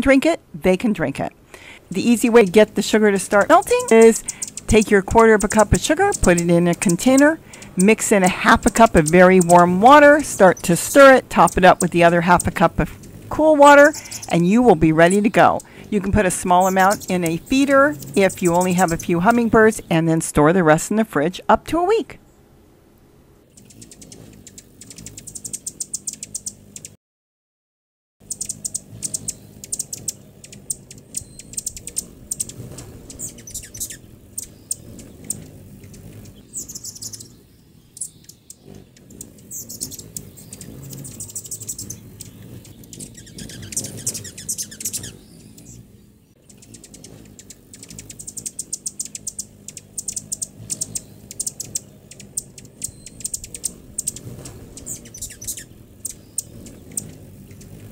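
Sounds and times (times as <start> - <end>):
hummingbirds chipping: 0.0 - 27.0, 28.2 - 57.9.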